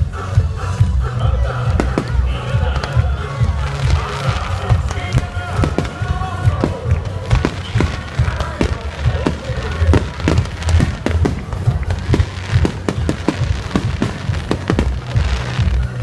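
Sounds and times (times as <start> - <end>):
music playing: 0.0 - 16.0
fireworks bangs and crackles: 1.4 - 16.0.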